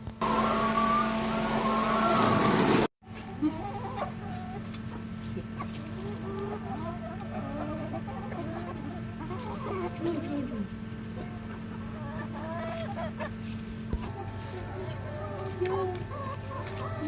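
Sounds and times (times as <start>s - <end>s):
chickens clucking: 0.2s - 17.0s
steady low hum: 3.1s - 17.0s.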